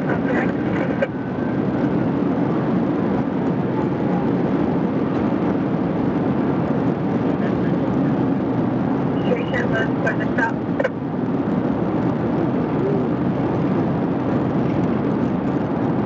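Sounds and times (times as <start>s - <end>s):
road noise: 0.0s - 16.0s
wind noise: 0.0s - 16.0s.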